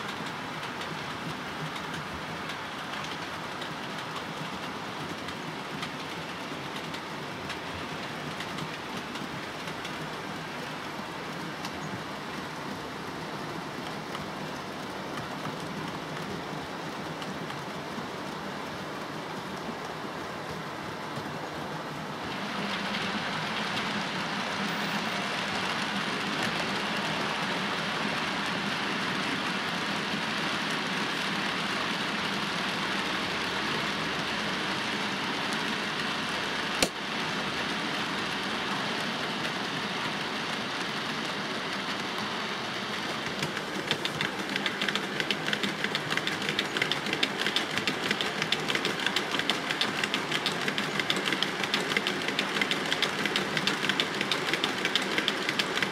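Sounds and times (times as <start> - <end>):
wheels clicking over rail joints: 0.0 - 55.9.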